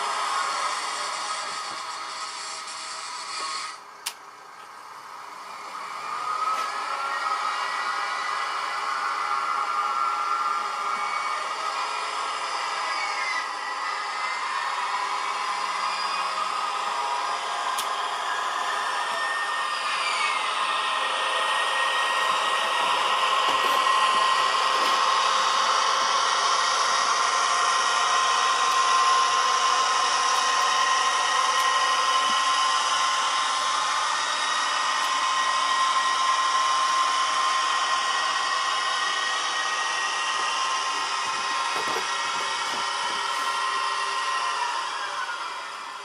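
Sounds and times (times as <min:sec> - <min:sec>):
model train motors whirring: 0:00.0 - 0:46.0
thin steady whine: 0:00.0 - 0:46.0.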